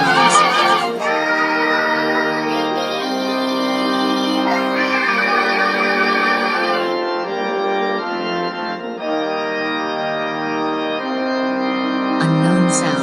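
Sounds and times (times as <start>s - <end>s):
organ-like keyboard chords: 0.0s - 13.0s.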